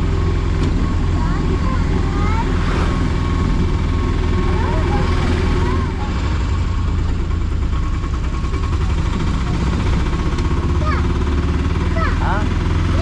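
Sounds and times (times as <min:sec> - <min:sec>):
rickshaw engine humming: 0:00.0 - 0:13.0
road noise: 0:00.0 - 0:13.0.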